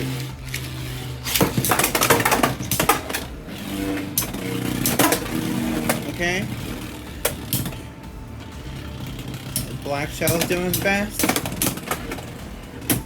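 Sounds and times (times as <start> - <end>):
spinning tops clattering: 0.0 - 13.0.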